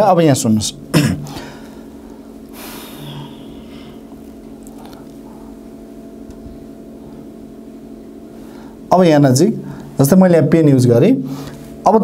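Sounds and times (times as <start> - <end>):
low hum: 0.8 - 10.6.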